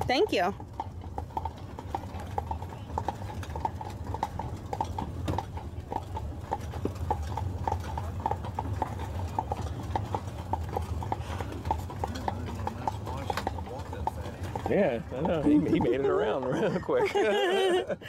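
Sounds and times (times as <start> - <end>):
horse hooves on gravel: 0.0 - 16.6.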